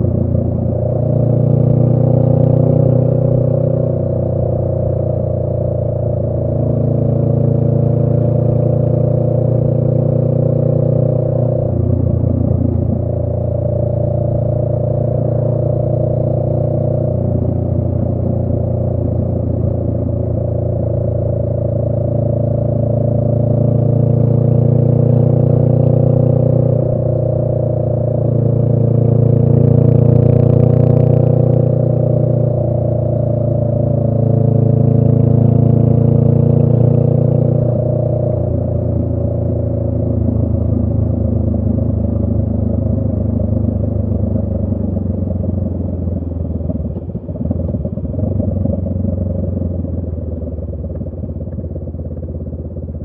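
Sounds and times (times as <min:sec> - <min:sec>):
motorcycle engine while riding: 0:00.0 - 0:53.0.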